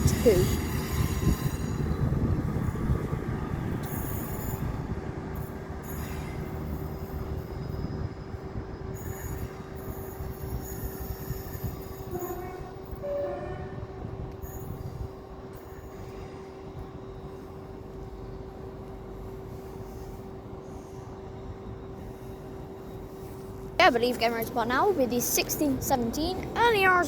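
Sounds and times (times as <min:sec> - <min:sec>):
diesel train rumble: 0:00.0 - 0:27.0.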